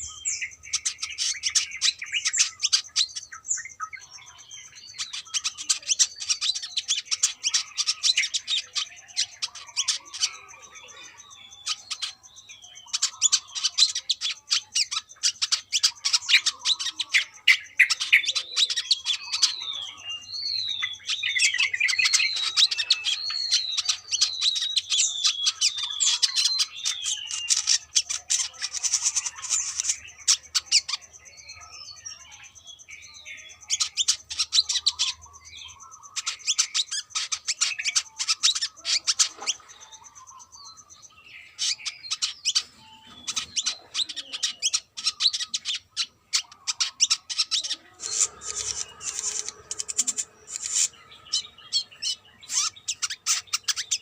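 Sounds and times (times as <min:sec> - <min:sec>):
bird twittering chatter: 0:00.0 - 0:54.0.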